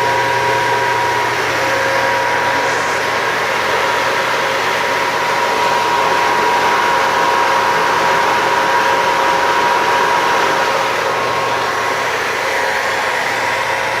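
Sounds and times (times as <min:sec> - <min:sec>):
generator engine running: 0:00.0 - 0:14.0
steady whine: 0:00.0 - 0:14.0.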